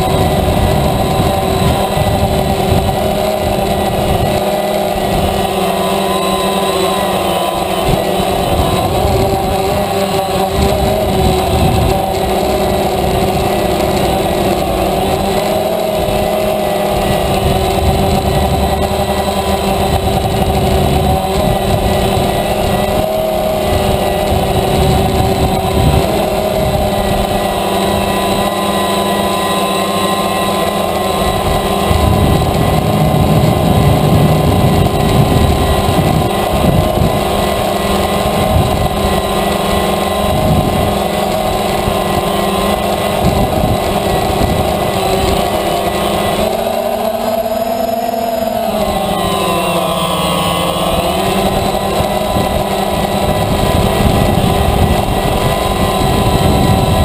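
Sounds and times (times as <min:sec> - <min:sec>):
wind buffeting microphone: 0:00.0 - 0:49.3, 0:50.4 - 0:57.0
drone motors humming: 0:00.0 - 0:57.0.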